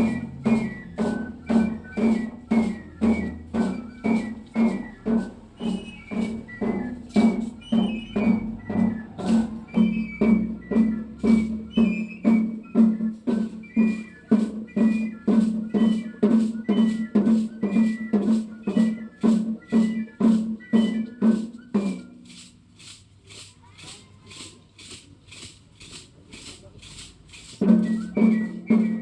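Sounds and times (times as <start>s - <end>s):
high flute-like melody: 0.0s - 22.5s, 27.7s - 29.0s
drum beating steadily: 0.0s - 29.0s.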